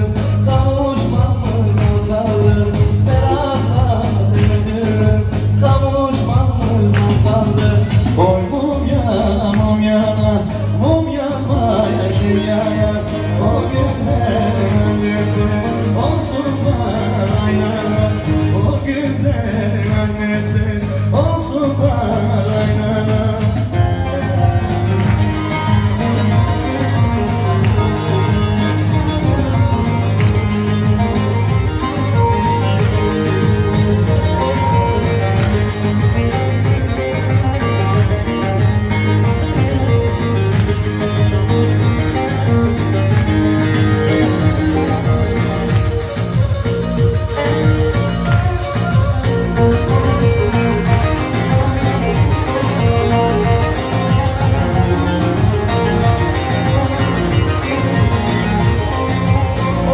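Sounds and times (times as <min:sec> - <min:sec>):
electronic keyboard accompaniment: 0:00.0 - 0:59.9
man singing into microphone: 0:00.0 - 0:59.9
plucked string melody: 0:00.0 - 0:59.9
steady bass line: 0:00.0 - 0:59.9.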